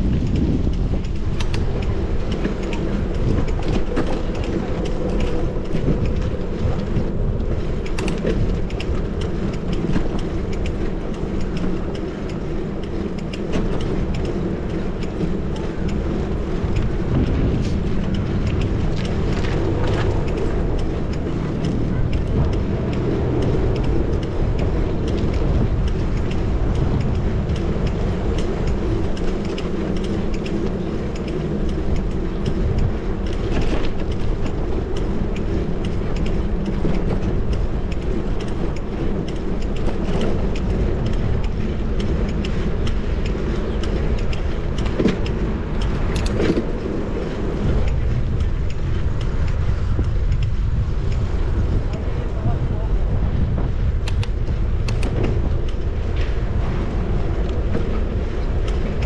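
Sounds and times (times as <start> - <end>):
passing traffic: 0.0 - 59.0
small clicks and rattles: 0.0 - 59.0
wind and road noise: 0.0 - 59.0.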